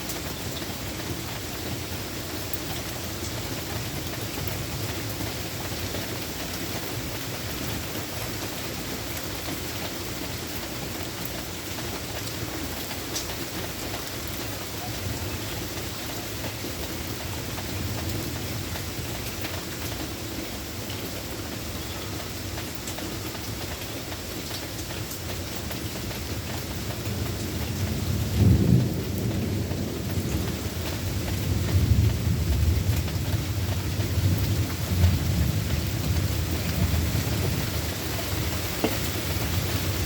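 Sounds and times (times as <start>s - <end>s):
raindrops ticking nearby: 0.0s - 40.0s
steady rain falling: 0.0s - 40.0s.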